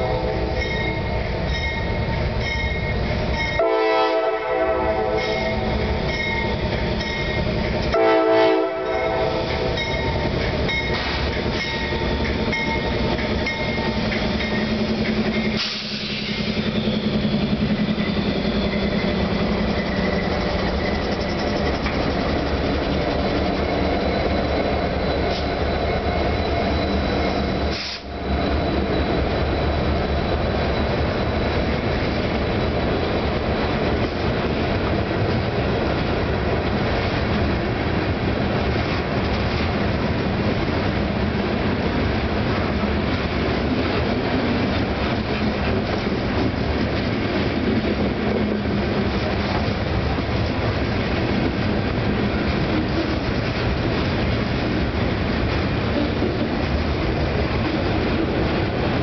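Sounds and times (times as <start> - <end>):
diesel locomotive engine: 0.0 - 59.0
steel wheels clattering on rail: 5.1 - 8.1, 8.7 - 59.0.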